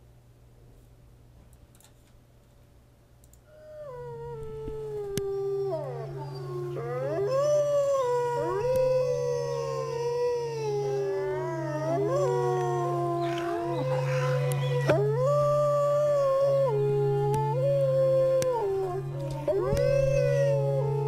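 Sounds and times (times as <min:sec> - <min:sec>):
steady low hum: 0:00.0 - 0:21.0
wolves howling: 0:03.5 - 0:21.0.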